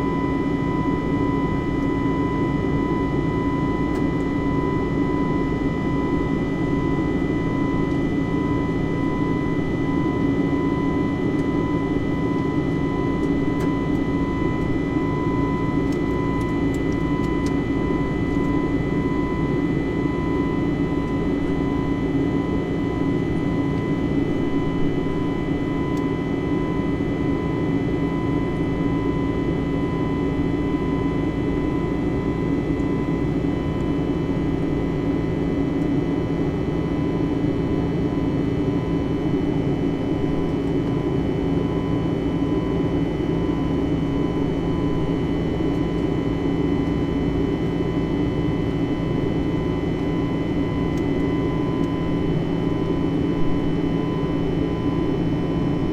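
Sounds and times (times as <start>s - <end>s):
faint steady whines: 0.0s - 55.9s.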